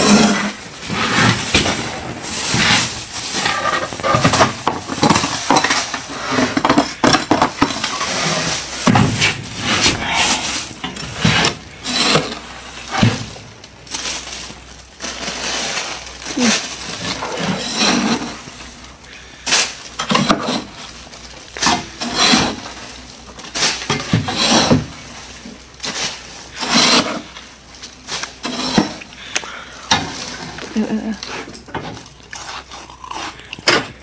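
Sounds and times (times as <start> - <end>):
metal scraping through frost: 0.0 - 29.1, 29.9 - 33.5.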